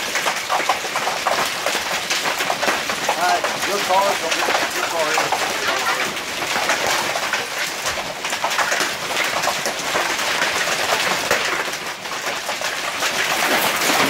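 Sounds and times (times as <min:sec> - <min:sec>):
hail clattering on ground: 0:00.0 - 0:14.0.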